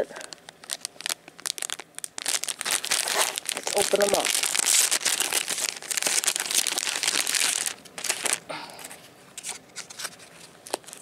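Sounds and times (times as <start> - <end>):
plastic bag crinkling: 0.0 - 8.5, 9.4 - 11.0.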